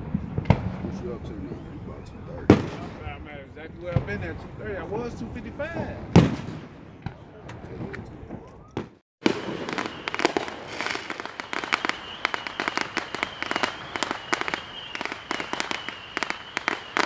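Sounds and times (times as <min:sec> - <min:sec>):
firecrackers popping: 0:00.0 - 0:01.5, 0:02.4 - 0:04.6, 0:06.1 - 0:17.0.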